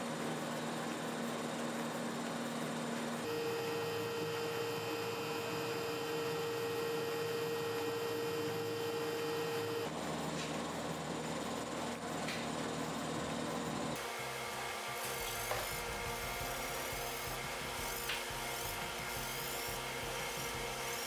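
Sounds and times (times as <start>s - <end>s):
steady hum with held tone: 0.0s - 21.0s.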